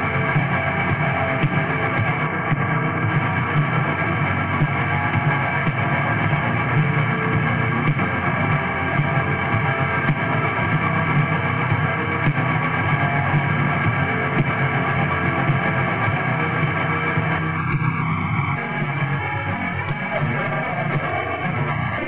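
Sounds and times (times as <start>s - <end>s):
distorted guitar and bass: 0.0s - 22.0s
drums: 0.0s - 22.0s.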